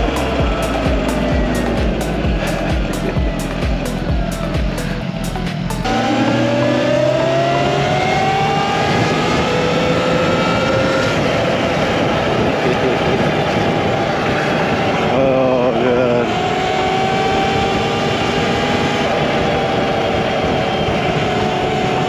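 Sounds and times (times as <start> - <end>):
electric motor whine: 0.0 - 22.0
wind and road noise: 0.0 - 22.0.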